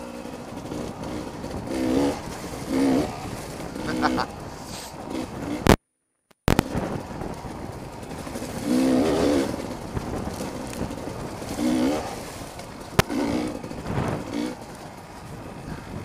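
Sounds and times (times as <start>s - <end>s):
motorcycle engine revving: 0.0s - 5.8s, 6.4s - 16.0s.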